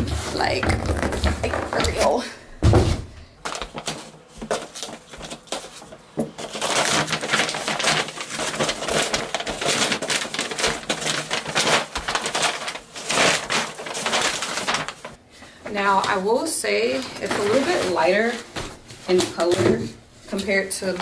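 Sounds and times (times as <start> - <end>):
paper and cardboard crinkling: 0.0 - 2.3, 3.4 - 21.0.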